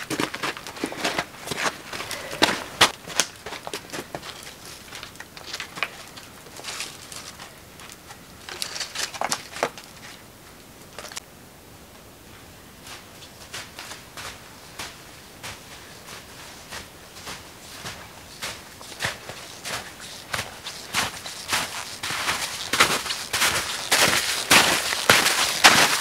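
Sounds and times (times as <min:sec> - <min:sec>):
footsteps in snow: 0:00.0 - 0:10.2, 0:12.8 - 0:26.0.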